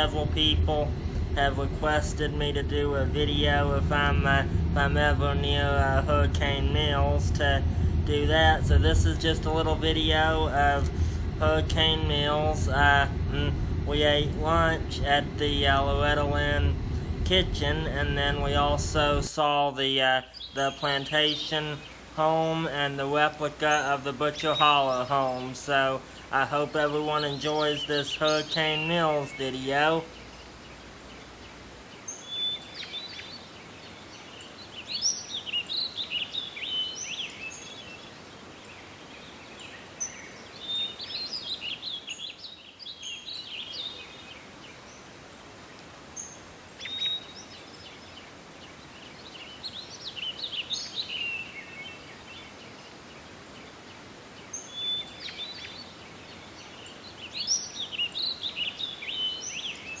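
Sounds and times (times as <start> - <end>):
outdoor hiss: 0.0 - 60.0
songbird chirping: 0.0 - 60.0.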